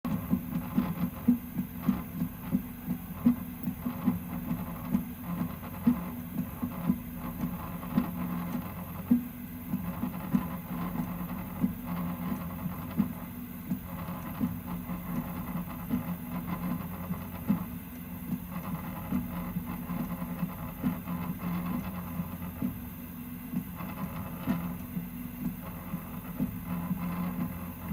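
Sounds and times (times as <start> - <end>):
printer motors humming: 0.1 - 27.9.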